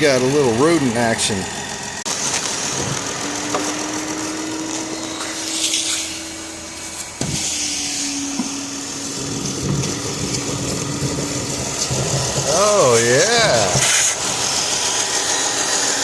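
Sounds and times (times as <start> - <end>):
car engine idling with whine: 0.0 - 16.0.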